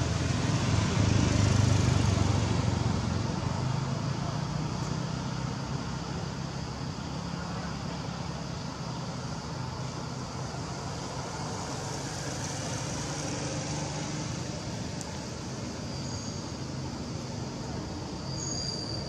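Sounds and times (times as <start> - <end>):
outdoor background noise: 0.0 - 19.0
vehicle engine hum: 0.0 - 19.0.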